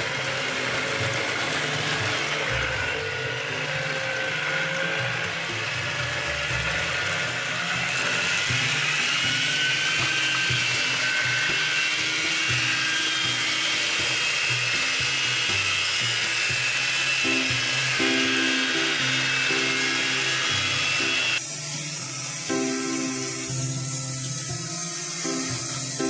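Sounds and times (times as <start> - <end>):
background music: 0.0 - 26.0
electric whisk whirring in bowl: 0.0 - 26.0.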